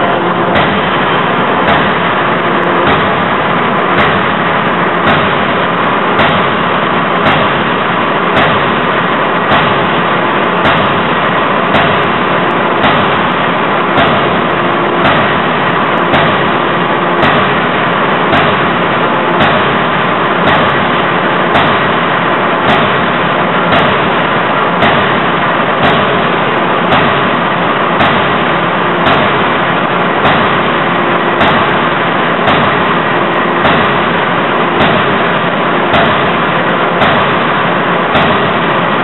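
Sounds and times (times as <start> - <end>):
forging hammer striking metal: 0.0 - 39.0
loud machine noise: 0.0 - 39.0.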